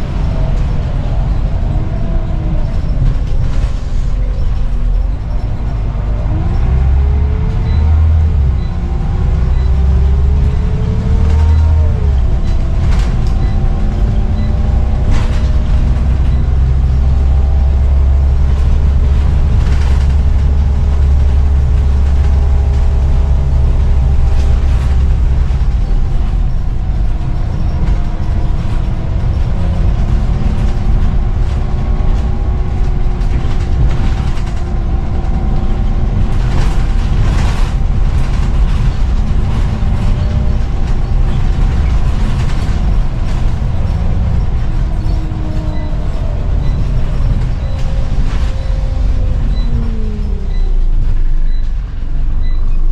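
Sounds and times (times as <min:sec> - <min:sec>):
knocks and rattles: 0:00.0 - 0:51.7
bus engine drone with whine: 0:00.0 - 0:52.9.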